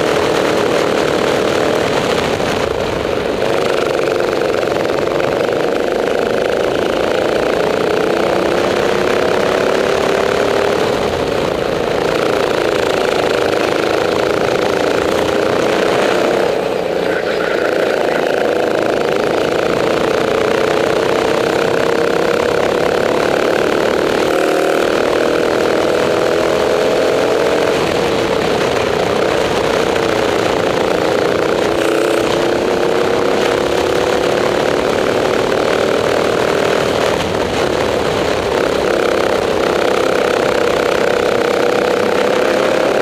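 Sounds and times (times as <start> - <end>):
kart engine racing: 0.0 - 43.0.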